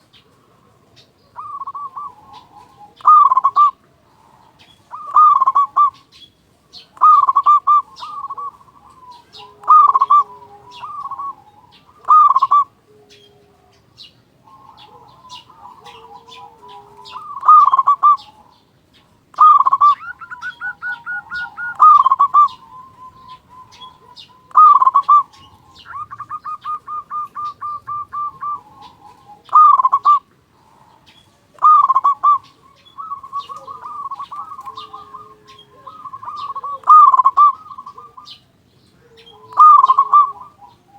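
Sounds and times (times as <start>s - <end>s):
small birds chirping faintly: 0.0s - 40.9s
zebra dove cooing: 0.0s - 40.9s.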